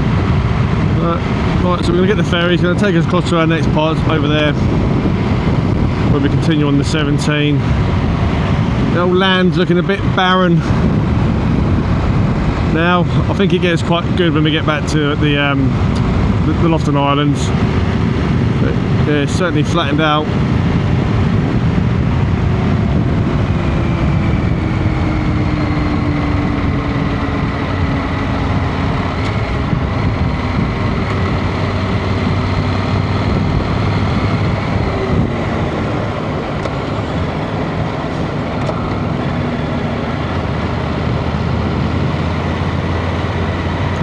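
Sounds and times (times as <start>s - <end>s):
motorcycle engine drone: 0.0s - 44.0s
rushing wind: 0.0s - 44.0s.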